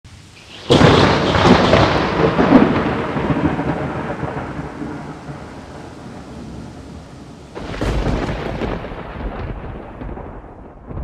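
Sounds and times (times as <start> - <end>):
loud boom with rolling rumble: 0.6 - 6.5, 7.6 - 11.0.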